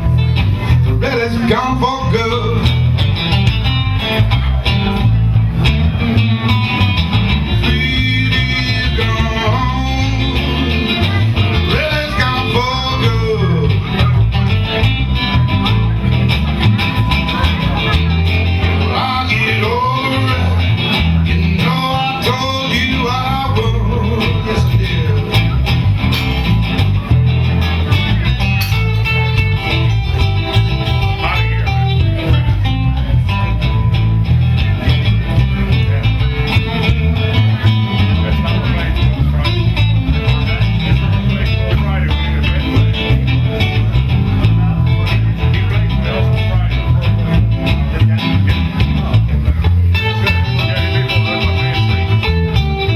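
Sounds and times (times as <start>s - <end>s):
bass and drums: 0.0s - 52.9s
electric guitar lead bending notes: 0.0s - 52.9s.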